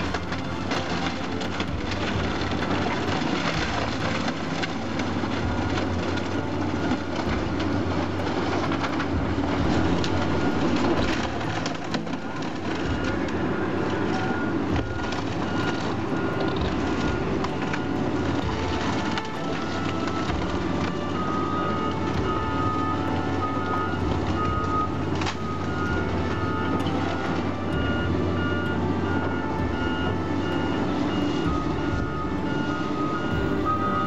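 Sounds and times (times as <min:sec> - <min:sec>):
debris crashing down: 0:00.0 - 0:34.0
excavator diesel engine: 0:00.0 - 0:34.0
wood splintering: 0:00.0 - 0:34.0.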